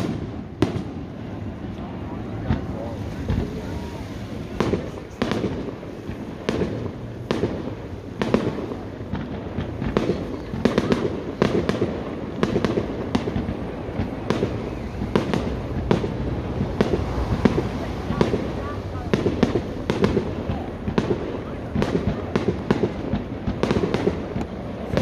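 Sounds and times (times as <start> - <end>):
fireworks shells bursting: 2.5 - 25.0.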